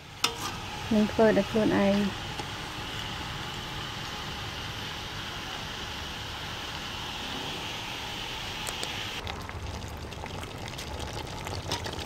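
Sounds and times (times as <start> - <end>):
curry bubbling and sizzling: 0.0 - 7.2, 7.9 - 12.0.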